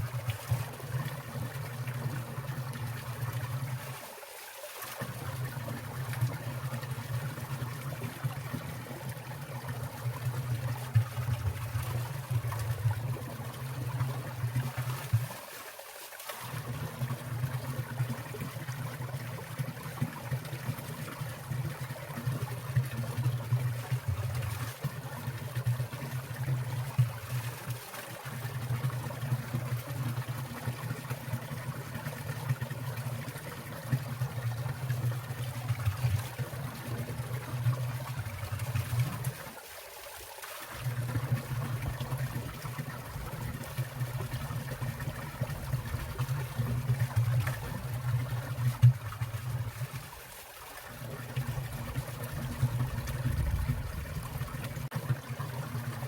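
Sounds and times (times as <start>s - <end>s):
stream water splashing over rocks: 0.0s - 56.0s.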